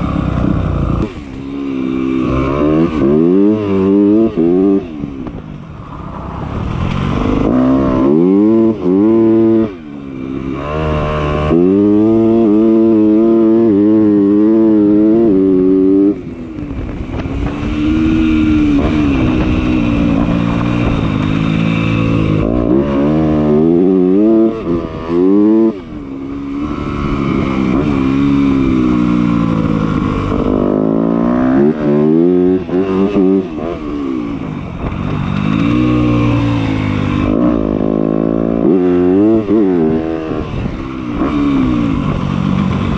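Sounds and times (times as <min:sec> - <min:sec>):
dirt bike engine revving: 0:00.0 - 0:05.4, 0:06.3 - 0:42.9.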